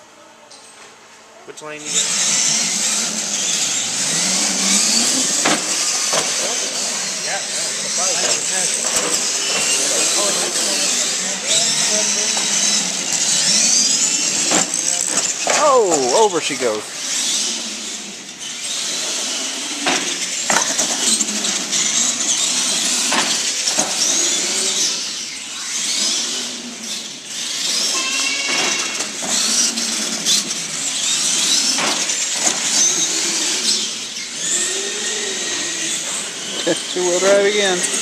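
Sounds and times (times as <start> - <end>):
toy truck motors whining: 1.7 - 38.0.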